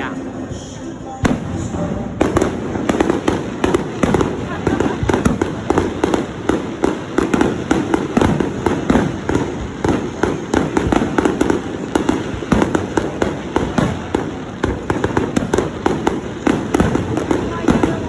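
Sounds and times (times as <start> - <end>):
firework shells bursting: 1.3 - 18.0.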